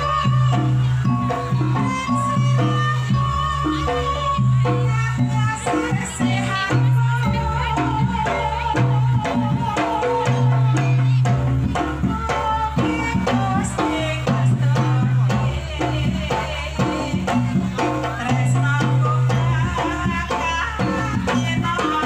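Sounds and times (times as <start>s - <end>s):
hand drums: 0.0s - 22.0s
metal percussion: 0.0s - 22.0s
percussion music over loudspeaker: 0.0s - 22.0s.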